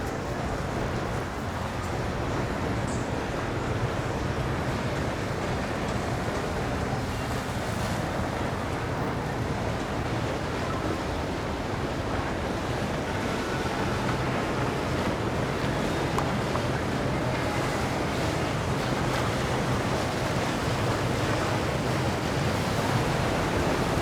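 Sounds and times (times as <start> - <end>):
boat engines droning: 0.0 - 24.0
rushing water: 0.0 - 24.0.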